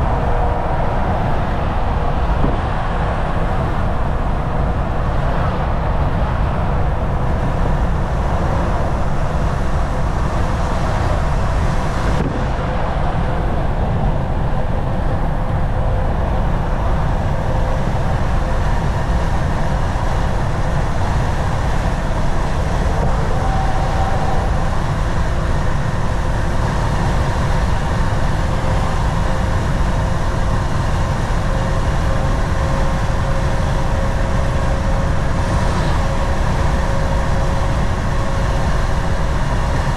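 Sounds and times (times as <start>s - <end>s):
faint steady whine: 0.0s - 39.9s
truck engine drone: 0.0s - 39.9s.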